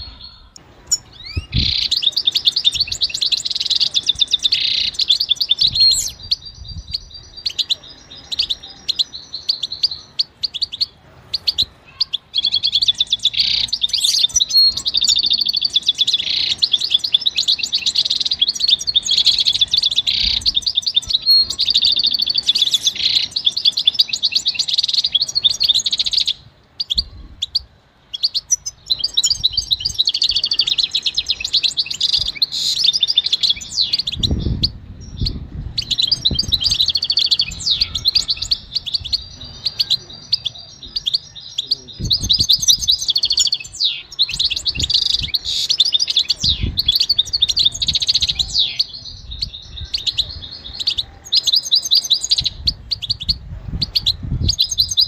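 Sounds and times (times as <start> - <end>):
goldfinch singing: 0.0 - 55.0.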